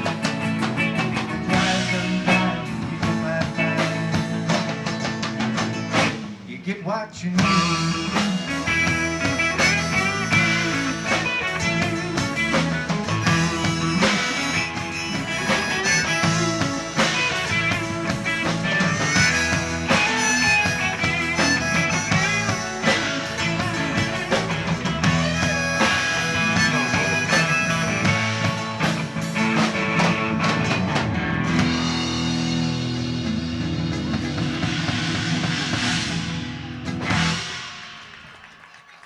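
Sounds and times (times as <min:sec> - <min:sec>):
electric guitar: 0:00.0 - 0:06.5, 0:07.4 - 0:38.3
drum kit: 0:00.0 - 0:06.7, 0:07.4 - 0:39.0
bass guitar: 0:00.0 - 0:38.0.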